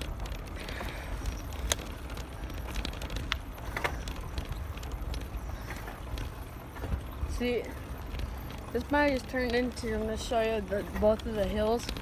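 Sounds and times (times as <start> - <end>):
bicycle clicks and rattles: 0.0 - 12.0.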